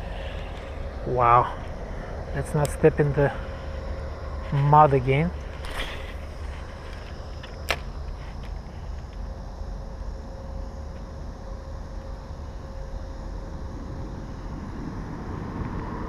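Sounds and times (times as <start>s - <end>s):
faint steady hum: 0.0s - 16.0s
low outdoor rumble: 0.0s - 16.0s.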